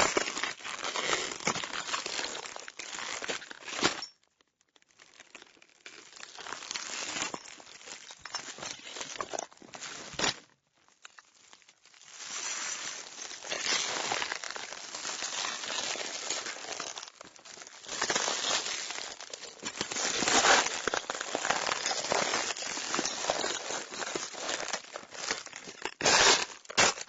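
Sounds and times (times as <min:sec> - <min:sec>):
broken glass crunching and crackling: 0:00.0 - 0:27.0.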